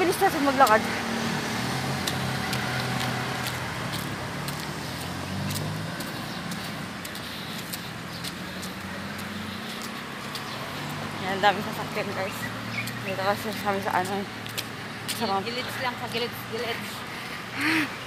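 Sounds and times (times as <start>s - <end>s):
vehicle engines humming: 0.0s - 18.0s.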